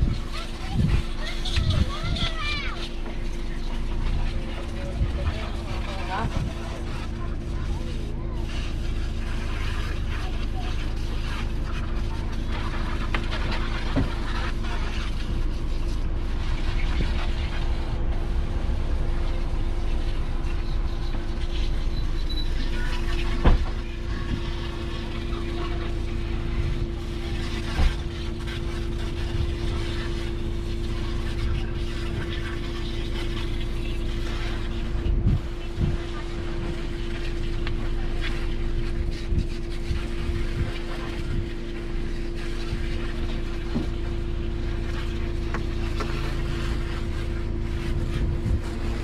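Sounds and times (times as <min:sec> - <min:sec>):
engine hum: 0:00.0 - 0:49.0
low rumble: 0:00.0 - 0:49.0.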